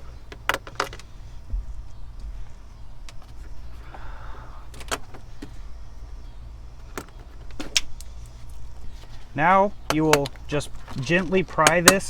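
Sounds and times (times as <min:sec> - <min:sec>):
low hum: 0:00.0 - 0:11.7.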